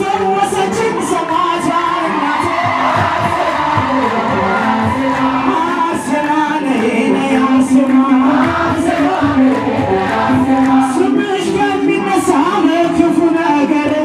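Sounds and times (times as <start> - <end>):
man singing into microphone: 0.0 - 14.0
men singing along: 1.8 - 13.1.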